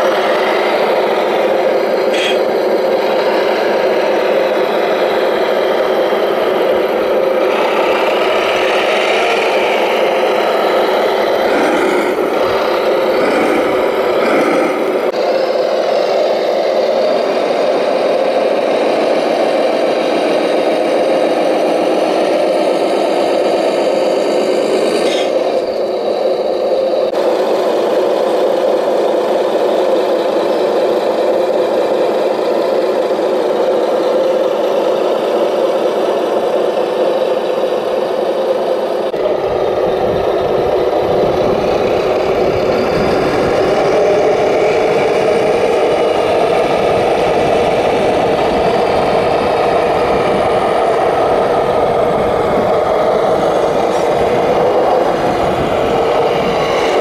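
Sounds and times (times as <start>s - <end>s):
model truck engine sound: 0.0s - 57.0s.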